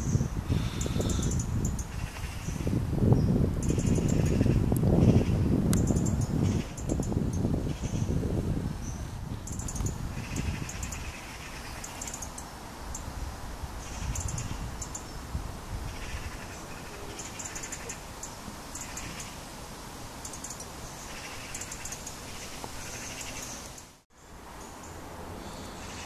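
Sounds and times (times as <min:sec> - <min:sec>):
birds calling: 0:00.0 - 0:19.5, 0:20.2 - 0:26.0.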